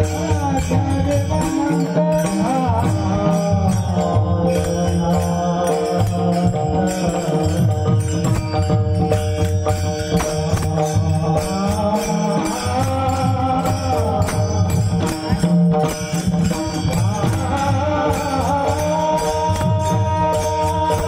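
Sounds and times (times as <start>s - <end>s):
person chanting and singing: 0.0s - 8.6s, 10.1s - 21.0s
held instrumental tones: 0.0s - 21.0s
percussion: 0.0s - 21.0s
small hand cymbals: 0.0s - 21.0s.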